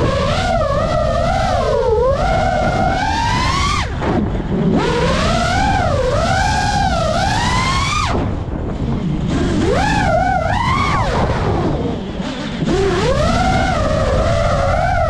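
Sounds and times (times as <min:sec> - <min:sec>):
quadcopter motors whining: 0:00.0 - 0:15.0
wind rumble on microphone: 0:00.0 - 0:15.0.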